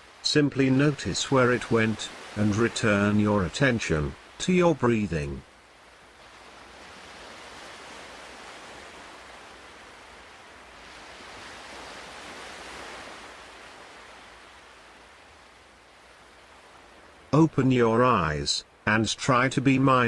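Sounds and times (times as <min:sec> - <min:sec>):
ocean surf washing in: 0:00.0 - 0:20.0.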